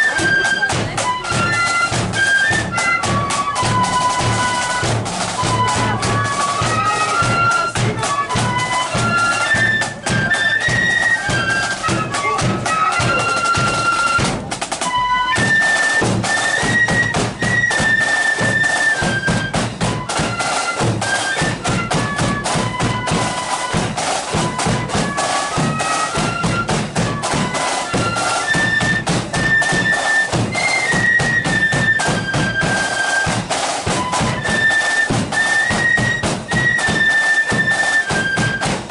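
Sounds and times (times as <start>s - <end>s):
flutes playing in unison: 0.0s - 38.9s
marching band drums: 0.0s - 38.9s.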